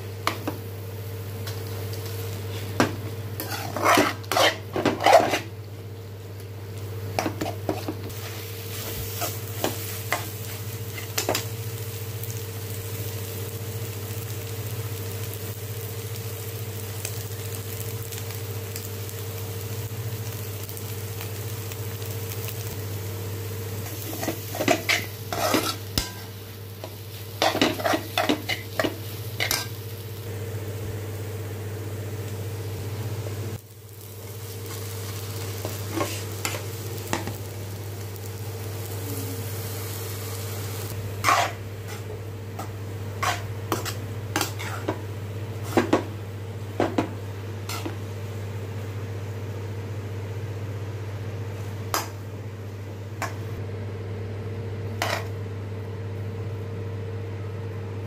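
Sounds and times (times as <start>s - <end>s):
light frying: 0.0s - 57.8s
steady low hum: 0.0s - 58.0s.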